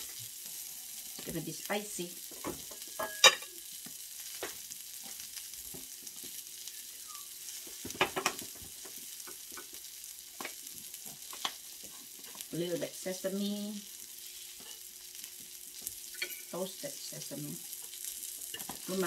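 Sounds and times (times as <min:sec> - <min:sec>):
beef sizzling on hot grill: 0:00.0 - 0:19.0.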